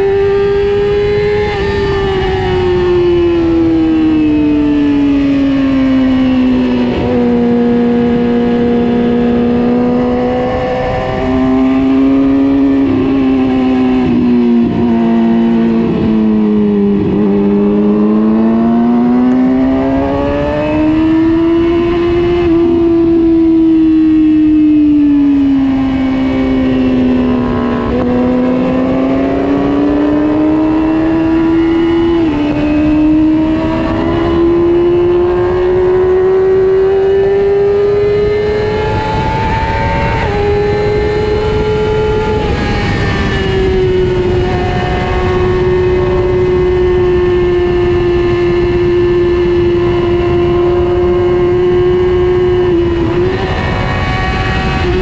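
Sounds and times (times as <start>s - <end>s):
heavy wind rush: 0.0s - 55.0s
motorcycle engine accelerating: 0.0s - 55.0s.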